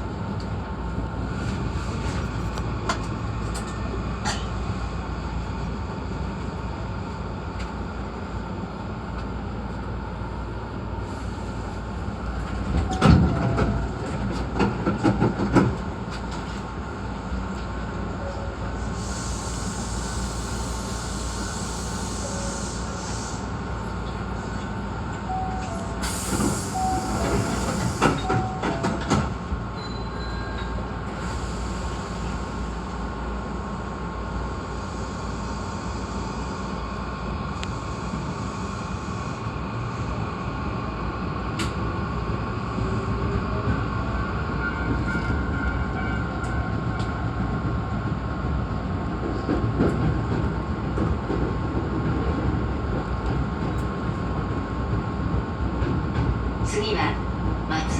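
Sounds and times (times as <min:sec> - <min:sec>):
train rumble and hiss: 0:00.0 - 0:57.9.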